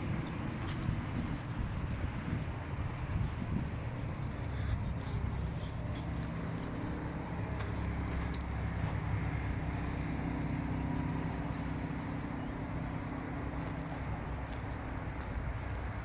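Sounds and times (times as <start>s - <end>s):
tram electrical hum: 0.0s - 16.0s
wheels rumbling on rail: 0.0s - 16.0s.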